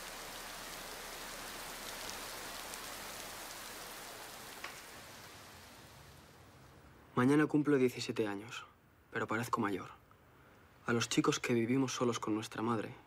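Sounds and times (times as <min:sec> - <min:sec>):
steady rain falling: 0:00.0 - 0:12.7.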